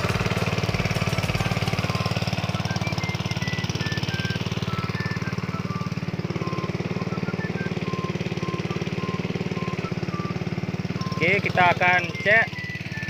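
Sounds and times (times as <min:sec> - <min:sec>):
light background music: 0:00.0 - 0:13.0
small petrol engine running: 0:00.0 - 0:13.0.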